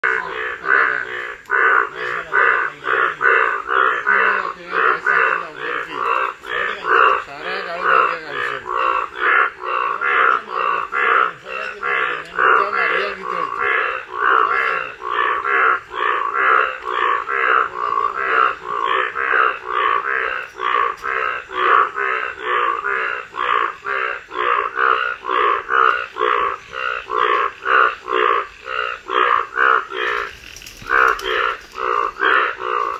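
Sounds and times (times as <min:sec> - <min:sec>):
frog croaking: 0:00.0 - 0:32.9.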